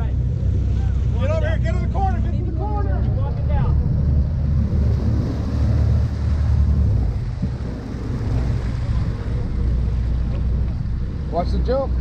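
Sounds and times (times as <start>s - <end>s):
boat engine drone: 0.0s - 12.0s
water washing along hull: 0.0s - 12.0s
wind buffeting microphone: 0.0s - 12.0s.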